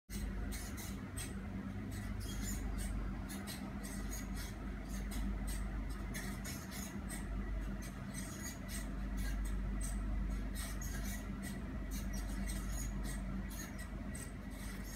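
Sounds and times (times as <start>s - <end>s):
steady low hum: 0.1s - 14.9s.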